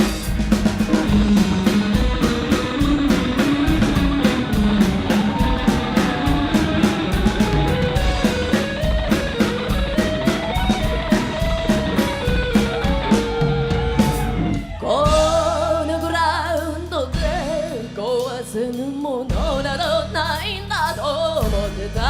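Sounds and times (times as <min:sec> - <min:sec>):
lead guitar melody: 0:00.0 - 0:17.8
drums steady beat: 0:00.0 - 0:20.1, 0:21.3 - 0:22.0.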